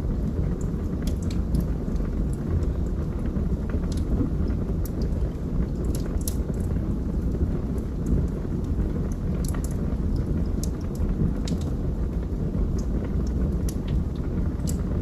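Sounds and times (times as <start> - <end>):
fire crackles and pops: 0.0 - 15.0
wood fire burning: 0.0 - 15.0.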